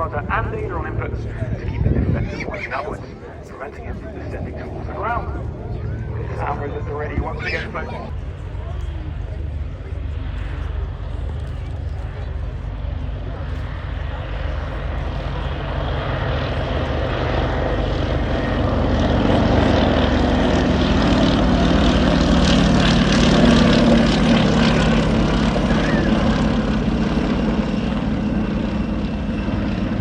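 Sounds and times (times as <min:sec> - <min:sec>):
propeller aircraft engine passing: 0:00.0 - 0:30.0.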